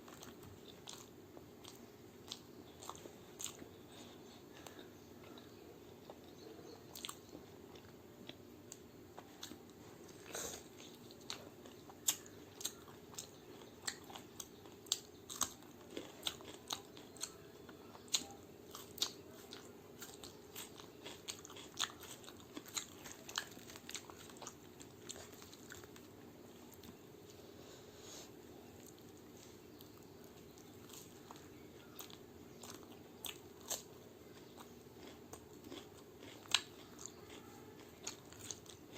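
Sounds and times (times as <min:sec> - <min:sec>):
chewing and biting: 0:00.0 - 0:27.0, 0:28.8 - 0:38.9
crunchy food crunching: 0:00.0 - 0:27.0, 0:28.7 - 0:38.9.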